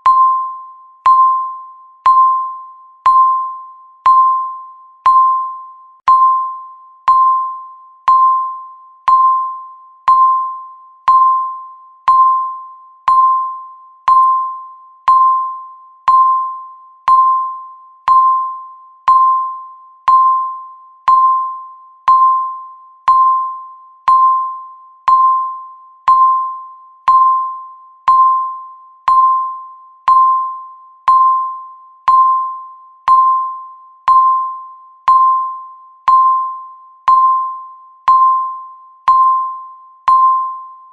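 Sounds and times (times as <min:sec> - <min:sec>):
timer electronic beep: 0:00.0 - 0:40.9.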